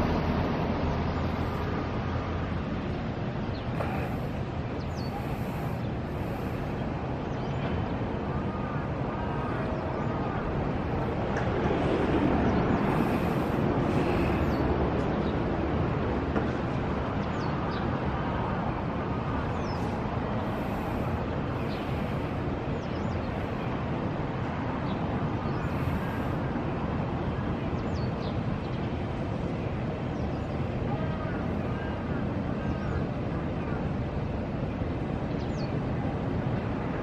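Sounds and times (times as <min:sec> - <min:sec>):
hum of car traffic: 0:00.0 - 0:37.0.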